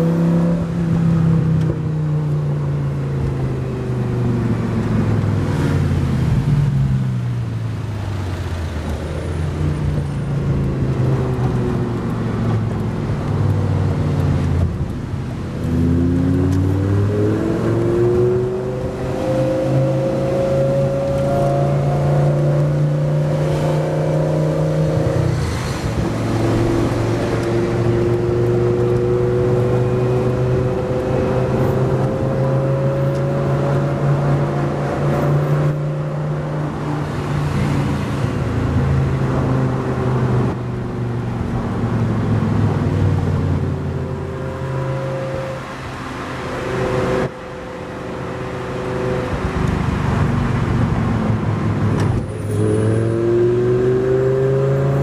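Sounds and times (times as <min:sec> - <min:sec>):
car engine revving: 0:07.2 - 0:40.6, 0:41.2 - 0:55.0.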